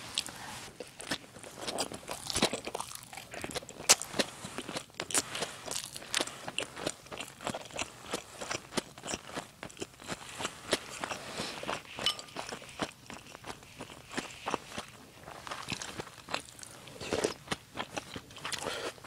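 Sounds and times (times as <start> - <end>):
person chewing with crunches: 0.0 - 19.0.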